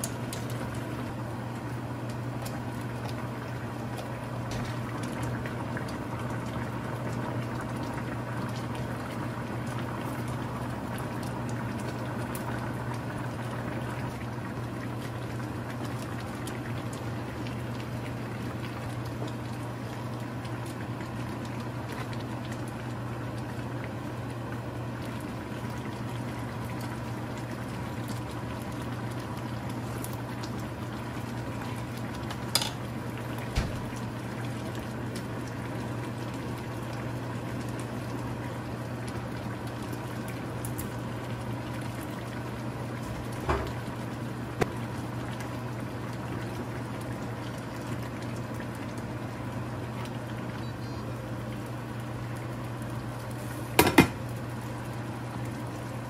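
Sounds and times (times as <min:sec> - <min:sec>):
stew bubbling in pan: 0:00.0 - 0:56.0.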